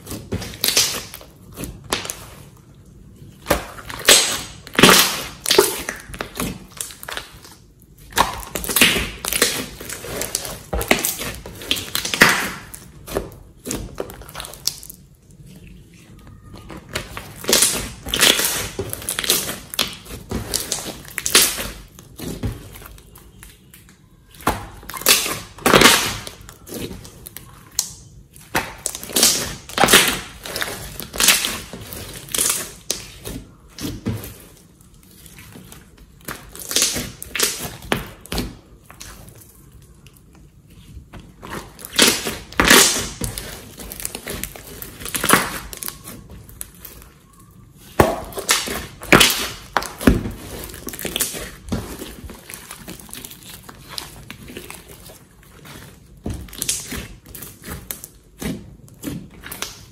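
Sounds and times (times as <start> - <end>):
slime squelching and crackling: 0.0 - 59.9.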